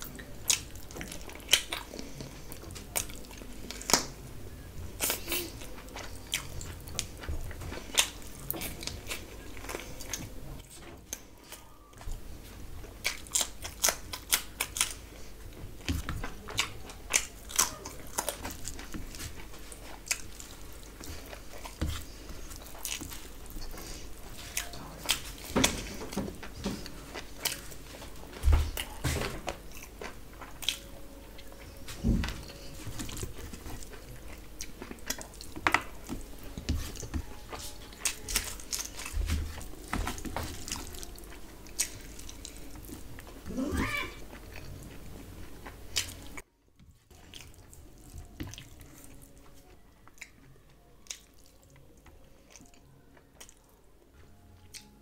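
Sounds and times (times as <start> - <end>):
chewing and wet mouth sounds: 0.0 - 55.0.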